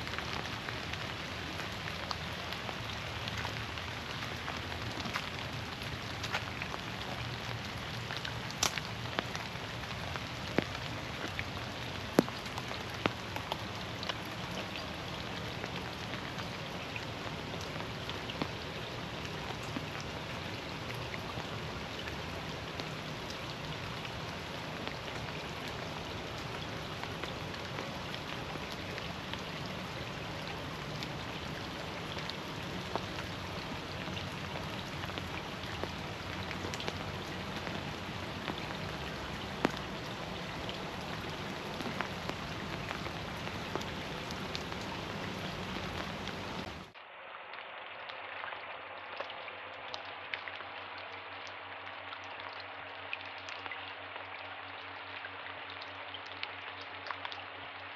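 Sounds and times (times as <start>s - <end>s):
steady rain in a forest: 0.0s - 57.9s.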